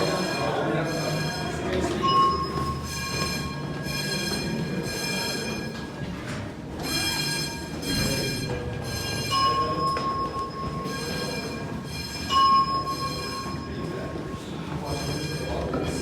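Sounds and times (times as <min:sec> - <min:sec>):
fire alarm tone: 0:00.0 - 0:06.0, 0:06.7 - 0:16.0.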